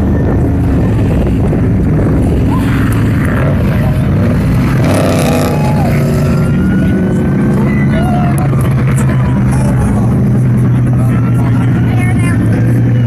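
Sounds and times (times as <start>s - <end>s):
race vehicle engines droning: 0.0s - 13.0s.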